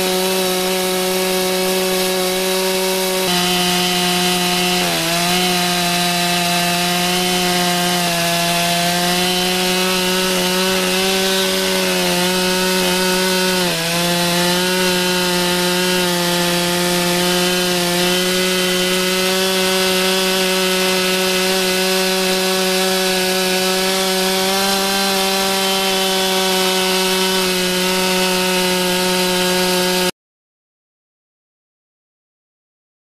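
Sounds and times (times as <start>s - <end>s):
chainsaw cutting through log: 0.0s - 30.2s.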